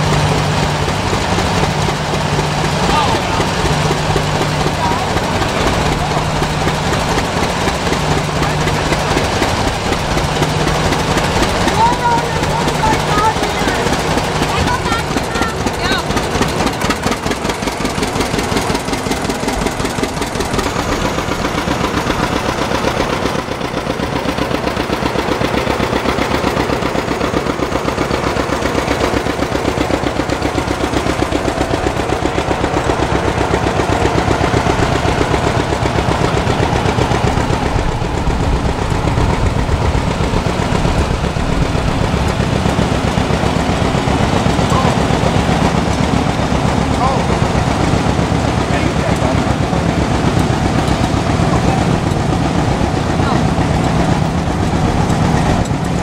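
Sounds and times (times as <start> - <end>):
popping engine exhaust: 0.0 - 56.0
tractor engines running: 0.0 - 56.0.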